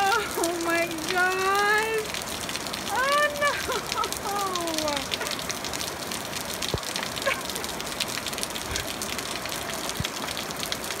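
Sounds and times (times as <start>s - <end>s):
floodwater rushing: 0.0s - 11.0s
raindrop ticks: 0.0s - 11.0s.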